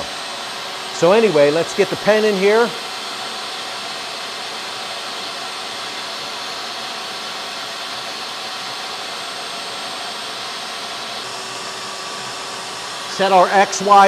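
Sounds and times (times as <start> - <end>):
vacuum table air rush: 0.0 - 14.0.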